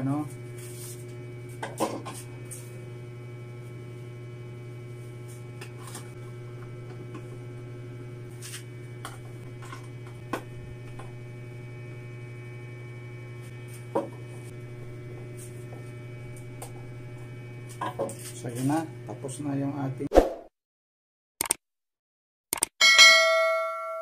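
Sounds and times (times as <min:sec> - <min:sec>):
steady electrical hum: 0:00.0 - 0:20.1.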